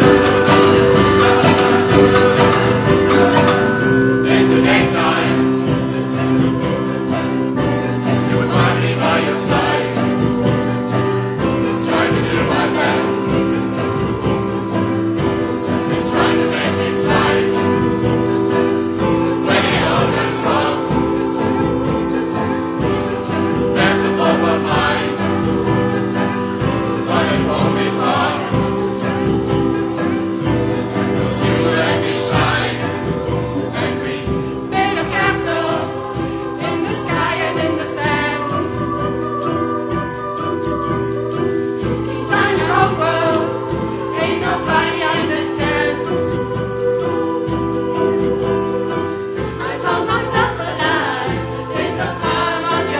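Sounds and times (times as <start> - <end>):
choir singing: 0.0 - 52.9
instrumental backing: 0.0 - 52.9.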